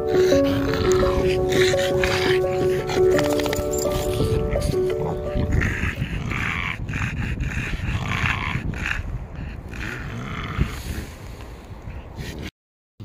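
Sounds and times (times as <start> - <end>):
dog huffing breaths: 0.0 - 12.5.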